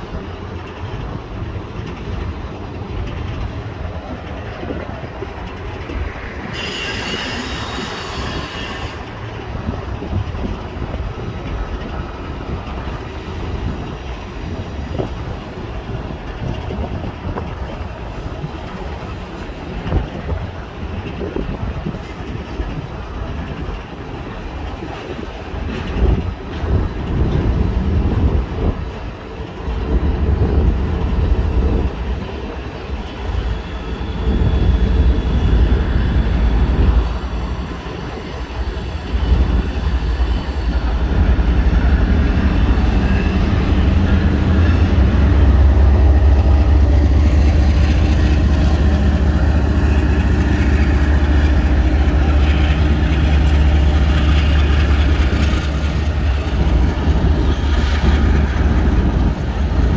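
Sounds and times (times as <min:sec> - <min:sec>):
freight train cars rumbling: 0:00.0 - 0:59.9.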